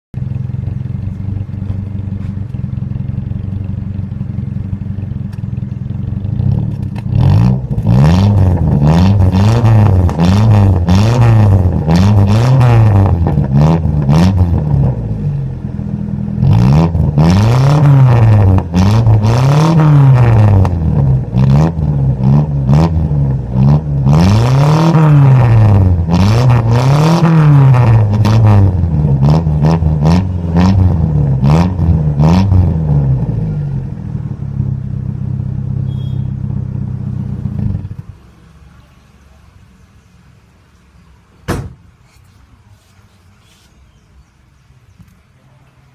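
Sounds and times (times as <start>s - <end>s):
car engine idling and revving: 0.2s - 41.8s.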